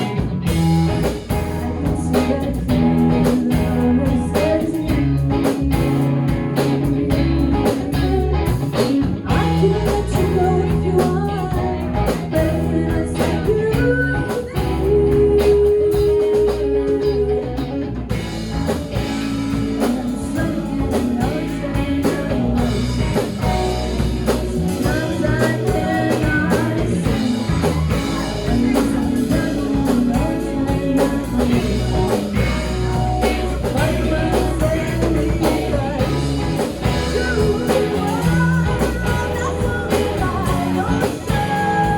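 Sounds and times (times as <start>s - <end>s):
live rock band playing: 0.0s - 41.9s
person singing: 0.0s - 41.9s.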